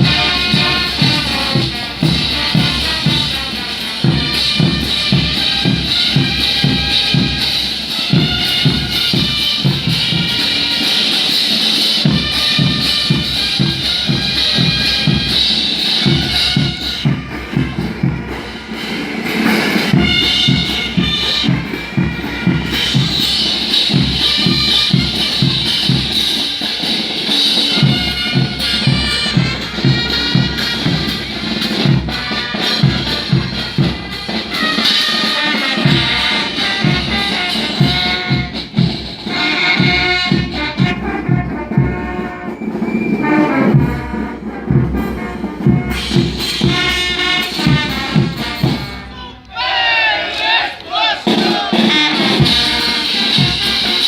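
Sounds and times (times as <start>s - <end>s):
bass drum and percussion beat: 0.0s - 49.3s, 50.6s - 54.0s
brass band playing dance music: 0.0s - 54.0s.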